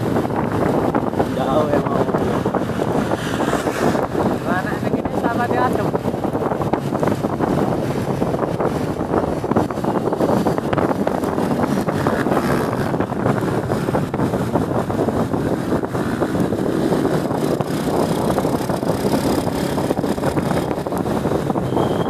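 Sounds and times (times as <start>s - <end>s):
motor scooter running: 0.0s - 21.6s
wind buffeting the microphone: 0.0s - 22.0s.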